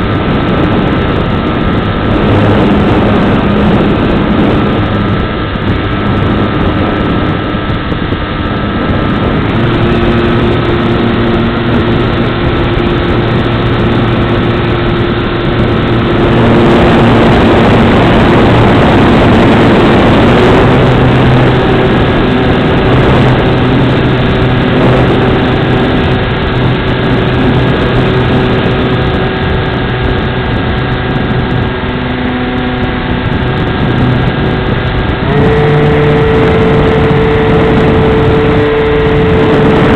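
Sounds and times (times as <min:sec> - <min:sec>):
model airplane motor and propeller: 0:00.0 - 0:39.9
wind rushing over microphone: 0:00.0 - 0:39.9.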